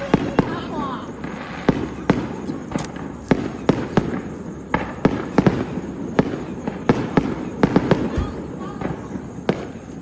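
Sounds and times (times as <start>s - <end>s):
fireworks bangs with echo: 0.0s - 10.0s.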